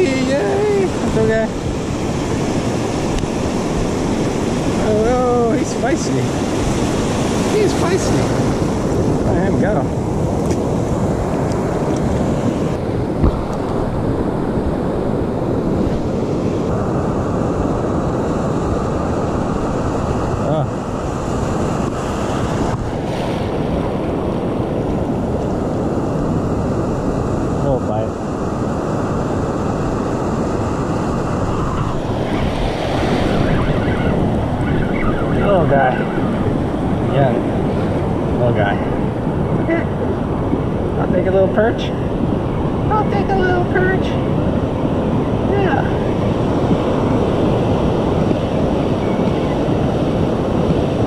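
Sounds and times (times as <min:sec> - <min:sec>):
ocean waves breaking: 0:00.0 - 0:51.0
wind buffeting microphone: 0:00.0 - 0:51.0.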